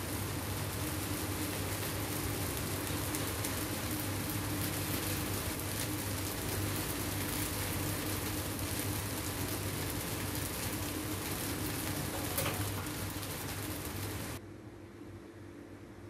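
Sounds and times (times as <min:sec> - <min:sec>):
noodles sizzling in a wok: 0:00.0 - 0:14.4.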